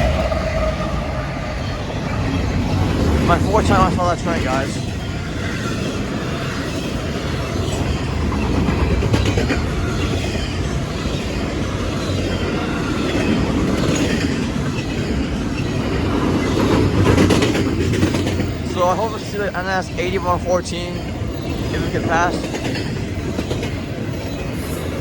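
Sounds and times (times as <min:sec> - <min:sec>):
freight train wheels on rails: 0:00.0 - 0:25.0.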